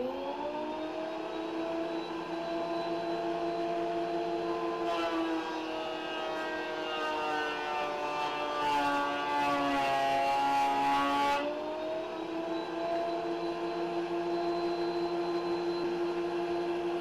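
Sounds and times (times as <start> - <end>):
planer motor whining unloaded: 0.0 - 8.6, 11.4 - 17.0
planer cutting a board: 0.0 - 17.0.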